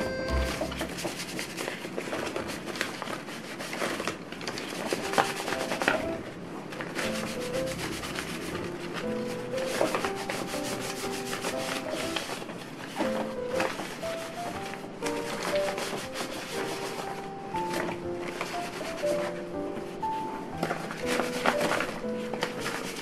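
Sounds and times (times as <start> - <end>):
soft background music: 0.0 - 1.3, 4.6 - 23.0
cloth rubbing leaves: 0.0 - 23.0.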